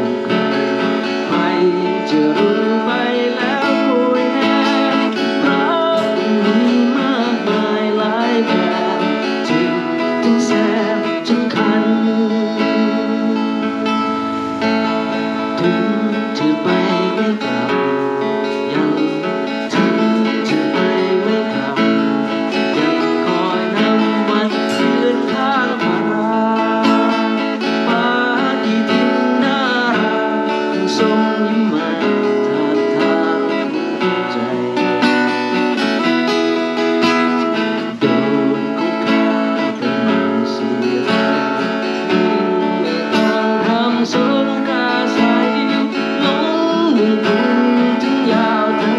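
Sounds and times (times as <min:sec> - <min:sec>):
guitar playing a melody: 0:00.0 - 0:48.9.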